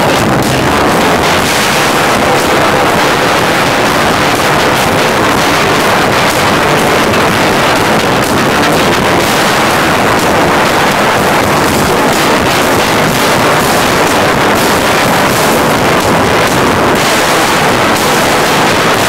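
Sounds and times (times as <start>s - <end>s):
distorted live rock band: 0.0s - 19.0s.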